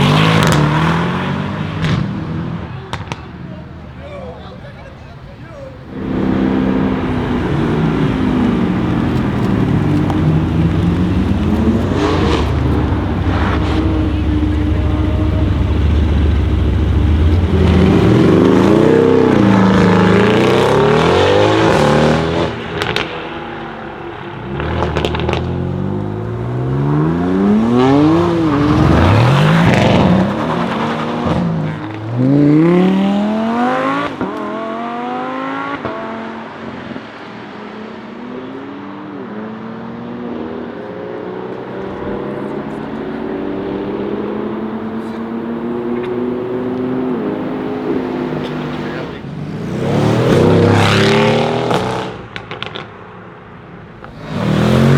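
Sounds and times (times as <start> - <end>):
car engine revving hard: 0.0 - 3.2, 5.8 - 37.0, 37.6 - 52.8, 54.0 - 54.9
exhaust cracks: 0.0 - 34.6, 41.5 - 54.9.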